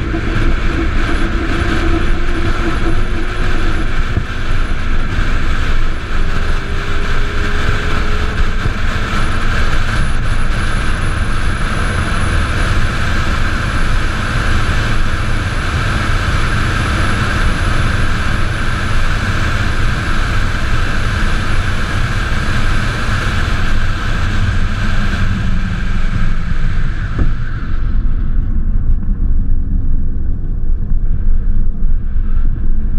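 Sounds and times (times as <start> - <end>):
faint high whine: 0.0 - 32.9
road noise: 0.0 - 32.9
wind rush: 0.0 - 32.9.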